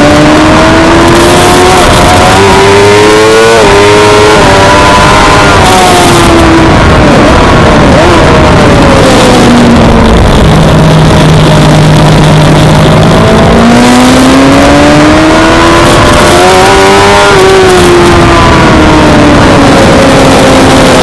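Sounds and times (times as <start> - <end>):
motorcycle engine revving: 0.0 - 21.0
wind noise: 0.0 - 21.0.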